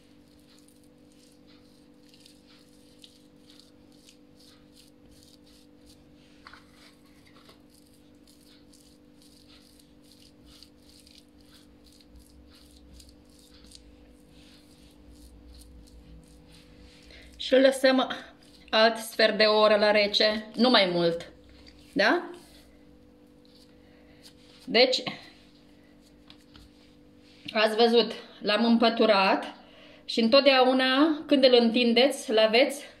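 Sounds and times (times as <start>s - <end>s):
hands patting and rubbing dough: 0.0s - 27.6s
steady low hum: 0.0s - 30.3s.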